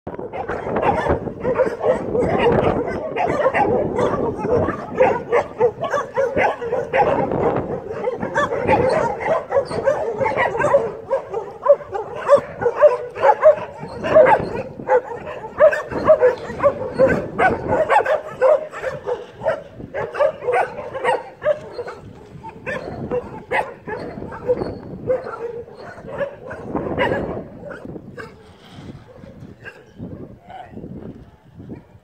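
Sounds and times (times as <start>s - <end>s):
many dogs barking: 0.1s - 32.0s.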